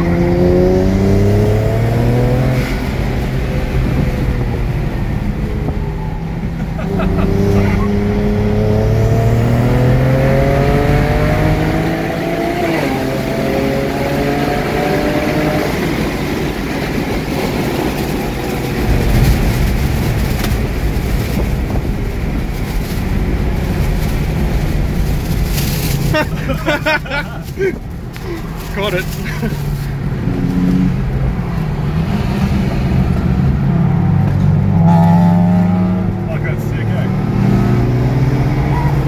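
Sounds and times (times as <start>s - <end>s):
car engine accelerating: 0.0s - 39.0s
road and tyre rumble: 0.0s - 39.0s.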